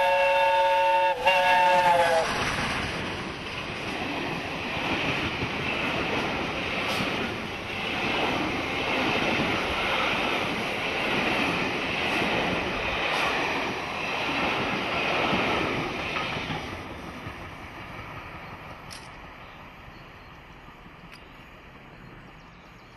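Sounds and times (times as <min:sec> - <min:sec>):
train rushing past: 0:00.0 - 0:22.9.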